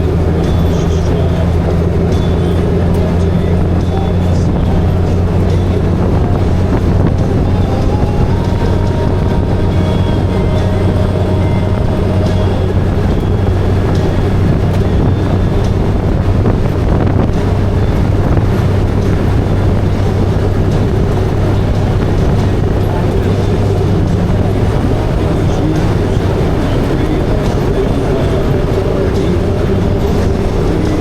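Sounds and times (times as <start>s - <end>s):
motorcycle engine running: 0.0s - 31.0s
wind rush: 0.0s - 31.0s.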